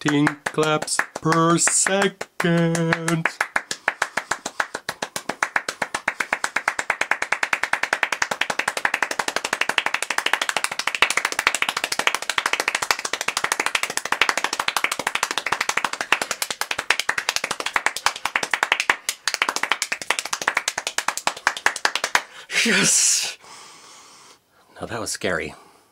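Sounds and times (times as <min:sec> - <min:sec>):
rapid hand clapping: 0:00.0 - 0:22.4.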